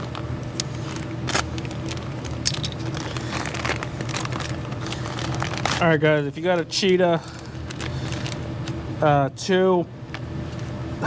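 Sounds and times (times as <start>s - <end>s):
packaging crinkling: 0.0s - 8.9s.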